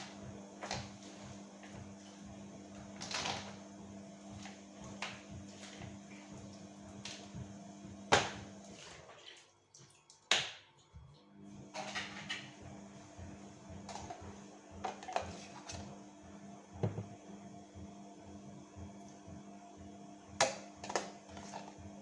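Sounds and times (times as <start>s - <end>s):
appliance hum: 0.0s - 22.0s.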